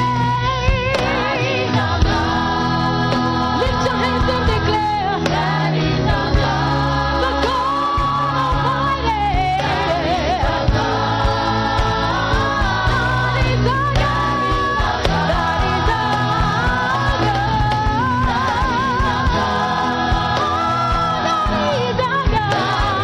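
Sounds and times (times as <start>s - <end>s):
bass notes: 0.0s - 23.0s
choir singing gospel: 0.0s - 23.0s
lead voice singing with vibrato: 0.0s - 23.0s
drum beat: 0.8s - 8.8s, 9.4s - 23.0s.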